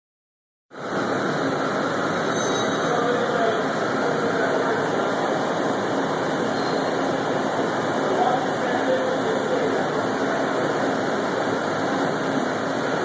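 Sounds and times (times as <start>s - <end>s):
printer mechanical whir and hum: 0.8s - 13.0s.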